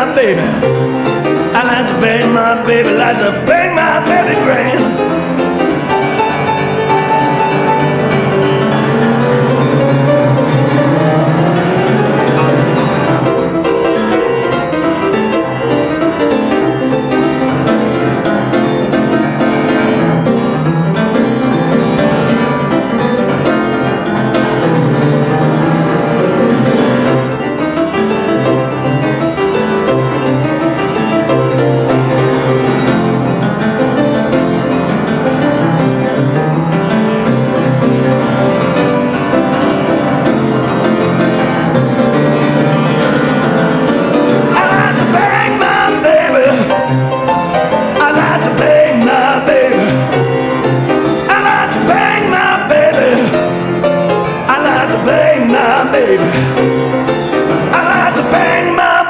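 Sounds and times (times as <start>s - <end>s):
blues piano solo: 0.0s - 59.0s.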